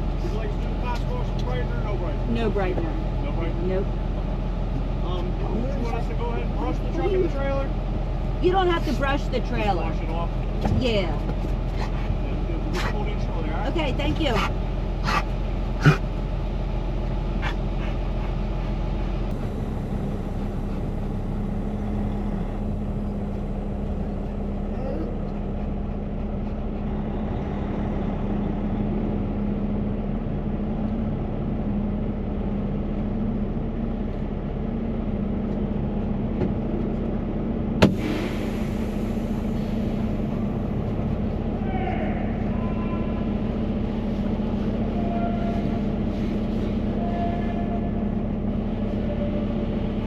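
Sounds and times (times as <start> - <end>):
truck idling: 0.0 - 50.0.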